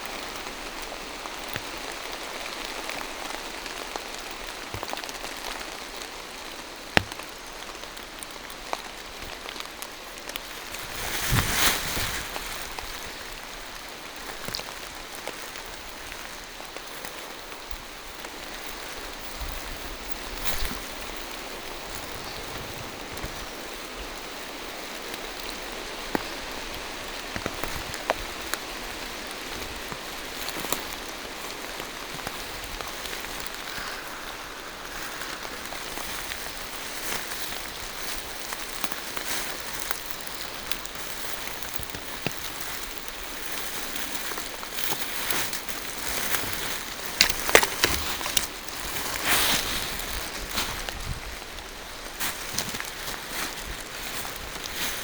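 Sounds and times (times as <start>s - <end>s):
raindrops ticking: 0.0s - 11.2s, 12.4s - 49.2s
rain falling through trees: 0.0s - 55.0s.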